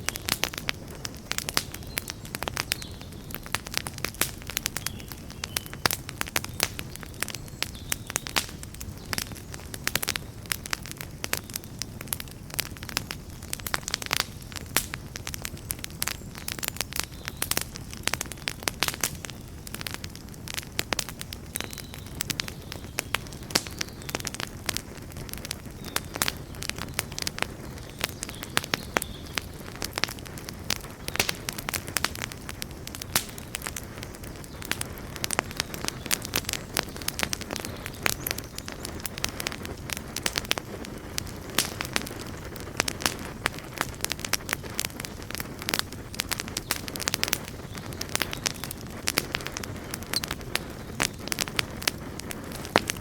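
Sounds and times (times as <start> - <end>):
campfire crackling and popping: 0.0 - 53.0
low rush of flames: 0.0 - 53.0.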